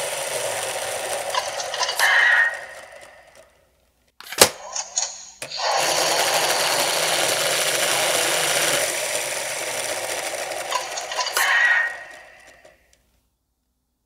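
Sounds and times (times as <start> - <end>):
toy fan whirring: 0.0 - 3.7, 4.4 - 13.1.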